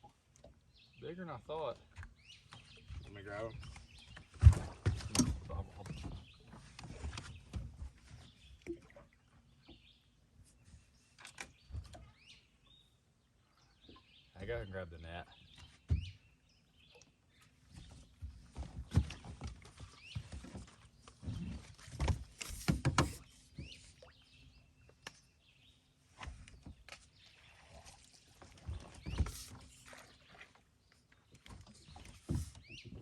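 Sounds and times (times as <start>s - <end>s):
birds chirping faintly: 0.6s - 33.0s.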